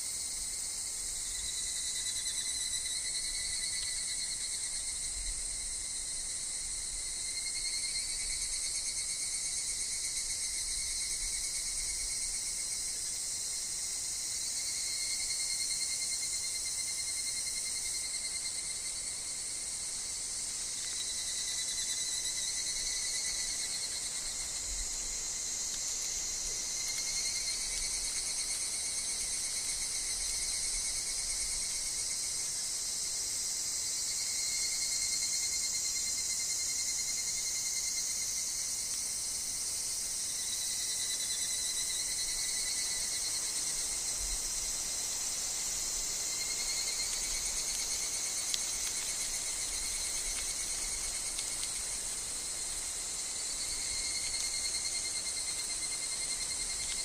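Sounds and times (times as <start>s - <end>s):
insect chorus high shrill: 0.0s - 57.0s
insect trills: 0.0s - 57.0s.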